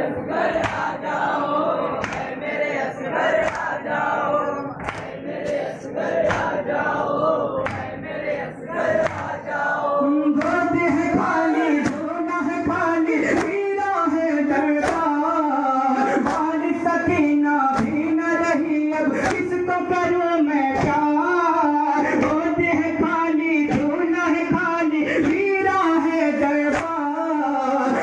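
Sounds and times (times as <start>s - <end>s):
men chanting in unison: 0.0s - 28.0s.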